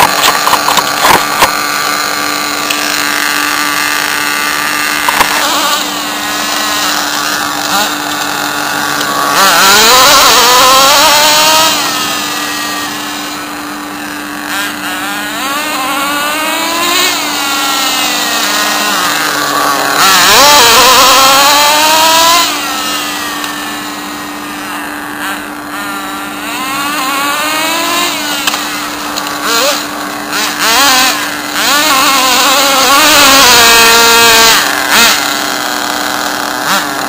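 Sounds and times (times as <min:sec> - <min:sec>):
rc car engine revving: 0:00.0 - 0:37.0.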